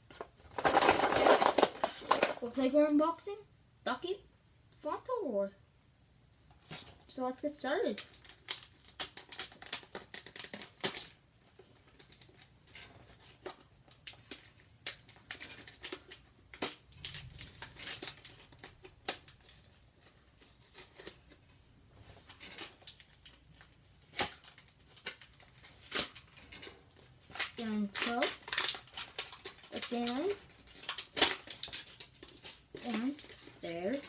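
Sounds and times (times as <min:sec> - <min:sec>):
plastic packaging crinkling: 0:00.5 - 0:02.5, 0:07.8 - 0:34.0.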